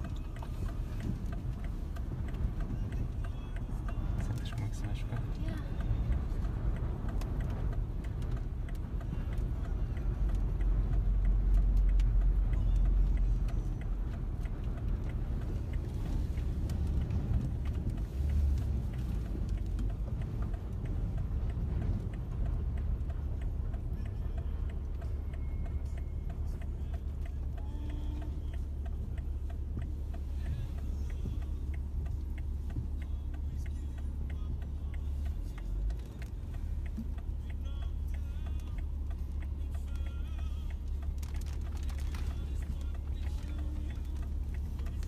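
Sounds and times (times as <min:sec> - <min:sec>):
faint ticks: 0:00.0 - 0:45.0
road and wind rumble in car cabin: 0:00.0 - 0:45.0.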